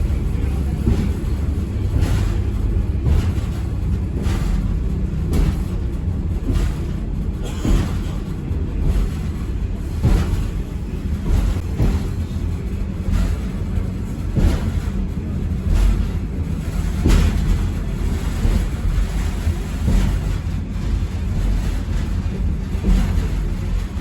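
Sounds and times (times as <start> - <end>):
train rumbling: 0.0 - 24.0
wheels knocking on track: 0.0 - 24.0.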